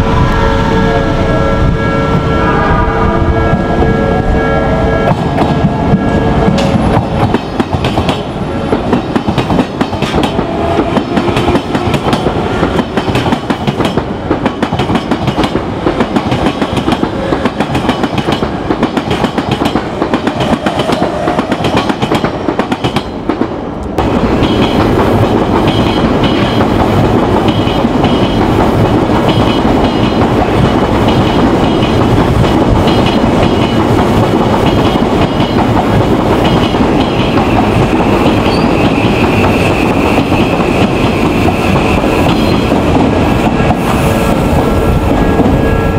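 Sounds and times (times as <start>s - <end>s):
passing train: 0.0s - 45.9s
train wheels clattering over rails: 5.1s - 45.6s.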